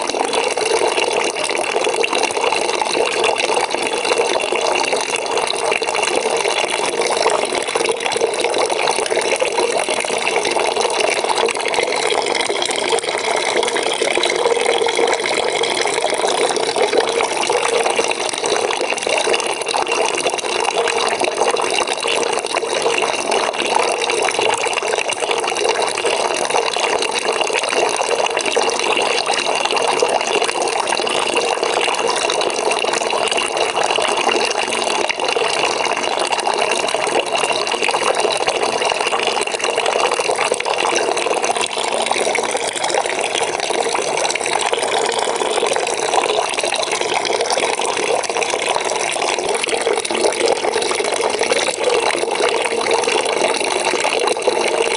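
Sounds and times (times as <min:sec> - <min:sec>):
tap water running into bucket: 0:00.0 - 0:54.9.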